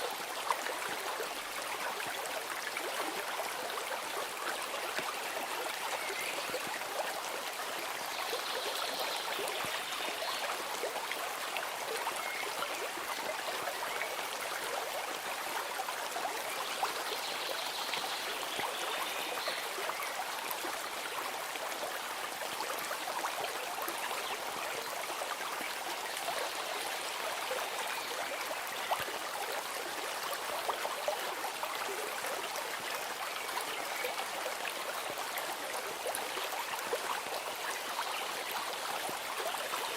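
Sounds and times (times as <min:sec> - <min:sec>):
running stream: 0:00.0 - 0:39.9.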